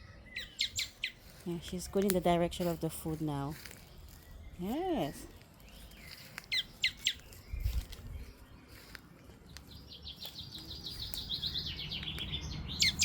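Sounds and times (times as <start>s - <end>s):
high bird trill: 0.0s - 8.8s, 9.7s - 13.0s
songbirds chirping: 0.0s - 13.0s.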